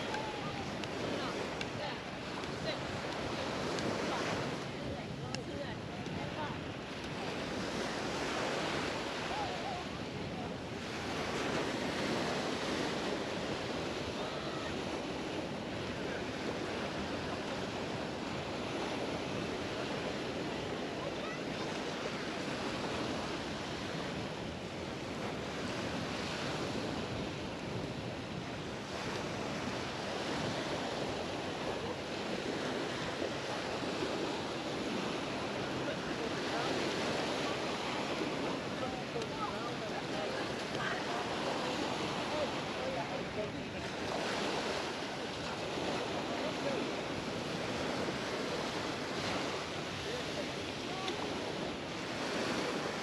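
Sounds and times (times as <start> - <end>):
small waves washing onto beach: 0.0 - 53.0.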